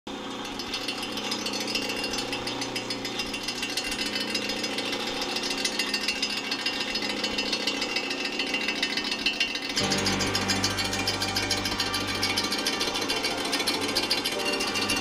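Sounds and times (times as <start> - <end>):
milling machine running: 0.1 - 15.0
fast rattling clatter: 0.4 - 15.0.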